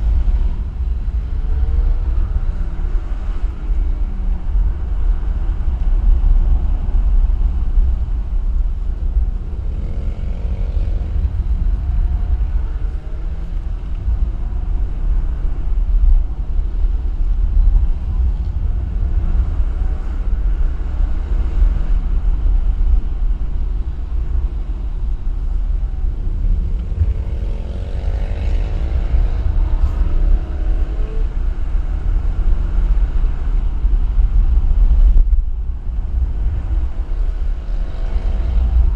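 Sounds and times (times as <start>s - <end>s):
road noise rumble: 0.0s - 38.9s
vehicle engine: 0.0s - 38.9s.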